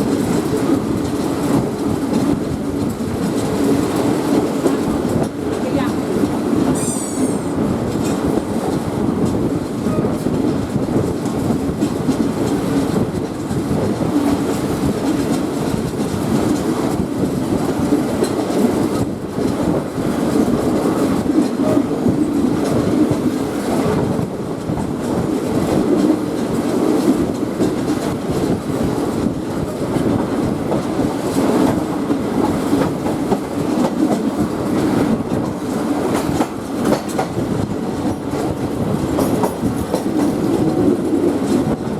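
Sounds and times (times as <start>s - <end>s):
train coaches rumbling: 0.0s - 41.9s.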